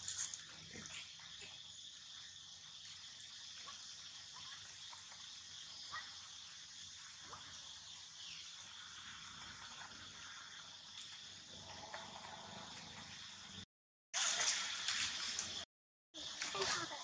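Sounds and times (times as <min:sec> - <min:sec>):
insect chorus buzzing: 0:00.0 - 0:13.6, 0:16.2 - 0:17.0.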